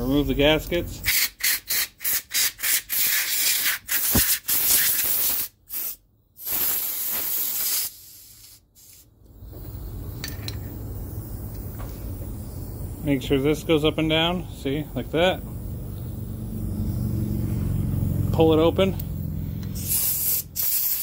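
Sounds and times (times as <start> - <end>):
air blow gun hissing blasts: 1.1 - 17.6, 19.5 - 21.0.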